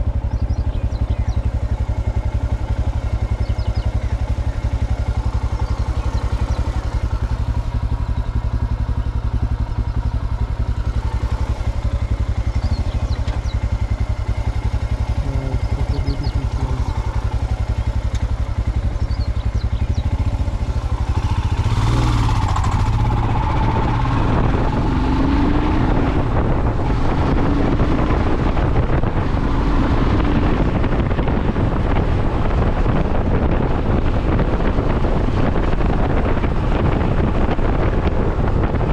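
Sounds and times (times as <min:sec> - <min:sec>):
motorcycle engine running: 0:00.0 - 0:38.9
wind noise on microphone: 0:03.2 - 0:38.9.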